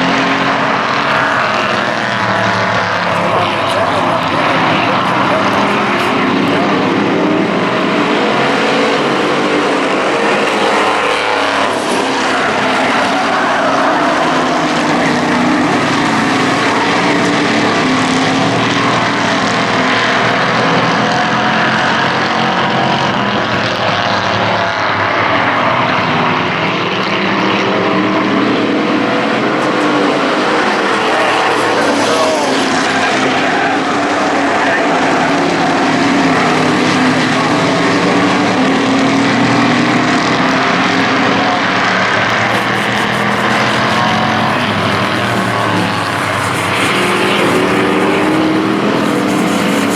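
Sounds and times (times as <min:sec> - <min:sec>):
race truck engines: 0:00.0 - 0:49.9.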